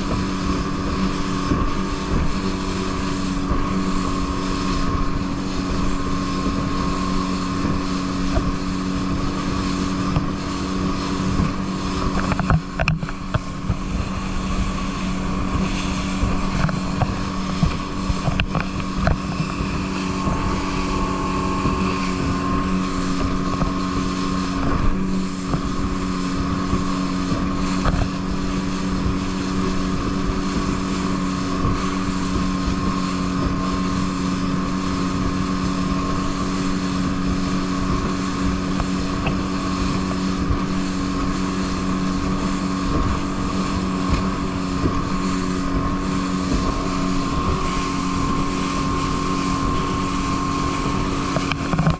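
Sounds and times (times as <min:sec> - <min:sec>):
boat engine running: 0:00.0 - 0:51.9
wind on microphone: 0:00.0 - 0:51.9.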